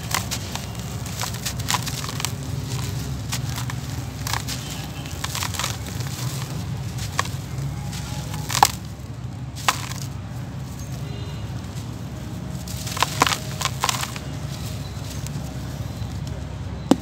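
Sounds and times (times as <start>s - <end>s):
loose dirt pouring: 0.0s - 16.4s
dirt crushed by hand: 0.0s - 17.0s.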